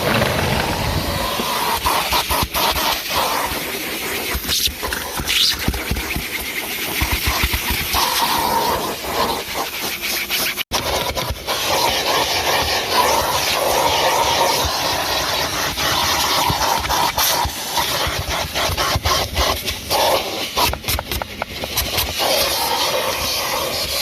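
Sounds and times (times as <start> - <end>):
vacuum cleaner suction hiss: 0.0 - 10.2, 11.4 - 21.0, 21.6 - 24.0
nozzle scraping car interior: 0.0 - 20.6.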